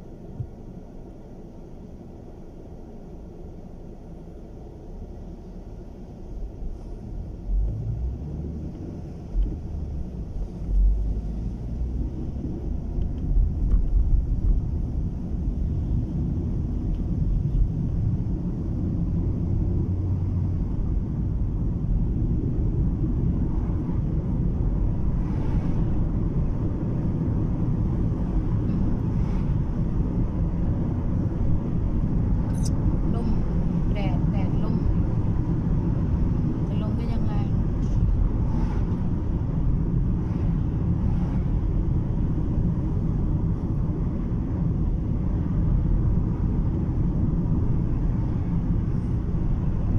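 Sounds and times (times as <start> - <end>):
car cabin road and engine rumble: 0.0 - 49.9.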